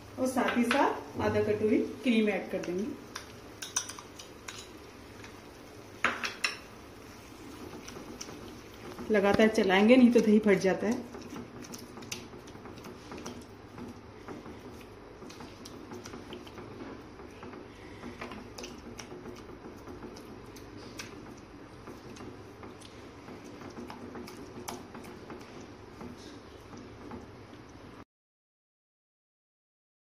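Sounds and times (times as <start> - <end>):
gravy simmering: 1.0 - 28.0.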